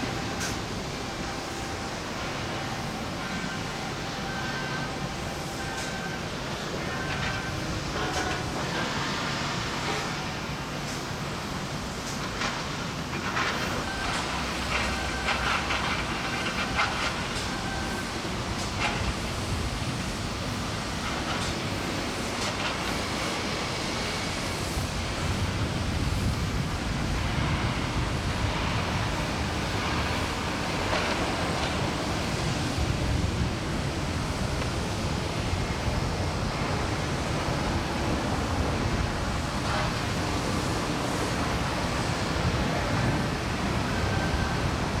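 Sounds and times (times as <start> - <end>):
rushing outdoor noise: 0.0 - 45.0.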